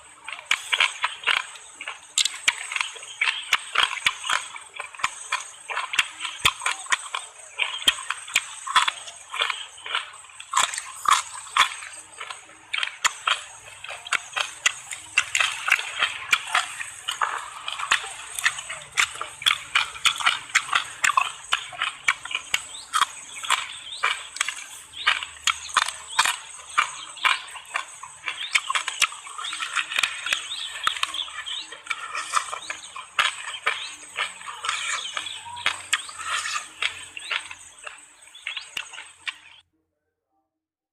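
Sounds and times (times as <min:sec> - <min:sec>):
crunching and chewing food: 0:00.0 - 0:39.6.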